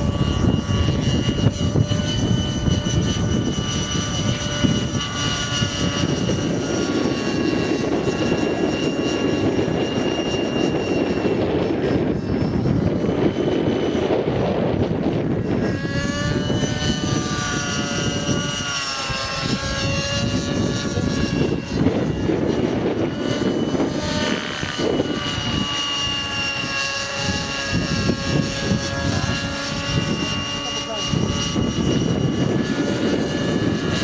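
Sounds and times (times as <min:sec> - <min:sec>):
model helicopter engine and rotors: 0:00.0 - 0:34.0.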